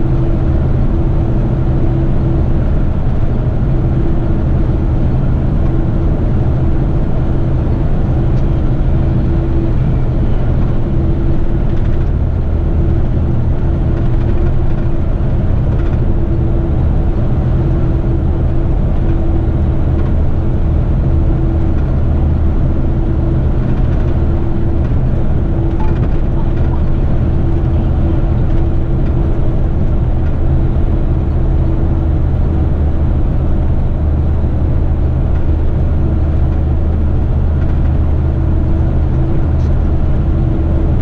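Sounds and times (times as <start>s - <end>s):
constant hum: 0.0s - 41.0s
truck diesel engine droning: 0.0s - 41.0s.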